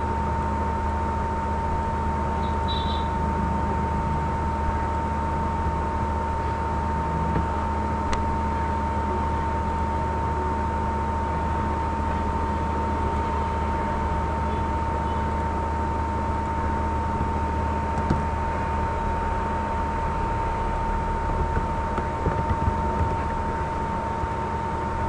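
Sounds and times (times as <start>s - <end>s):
electrical hum: 0.0s - 25.0s
high whine: 0.0s - 25.0s.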